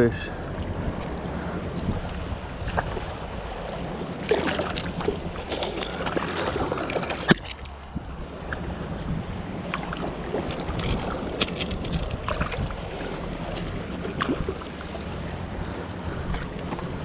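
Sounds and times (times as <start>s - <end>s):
water lapping: 0.0s - 17.0s
wind rumbling on microphone: 0.0s - 17.0s
fish splashing: 1.0s - 9.0s, 9.6s - 17.0s.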